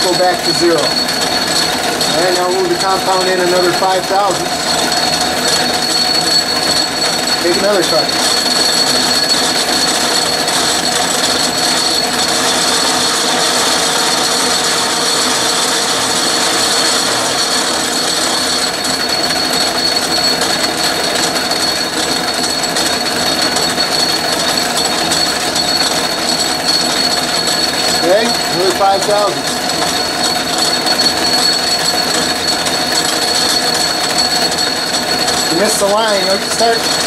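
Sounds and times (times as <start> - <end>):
metal lathe whirring: 0.0 - 37.0
thin high whine: 0.0 - 37.0.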